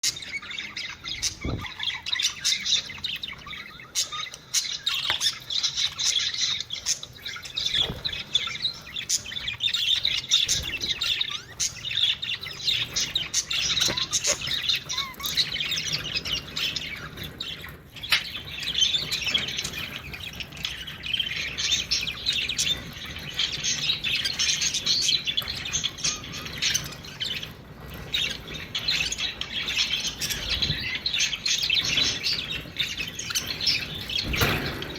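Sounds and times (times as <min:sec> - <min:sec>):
budgerigars chattering and warbling: 0:00.0 - 0:34.9.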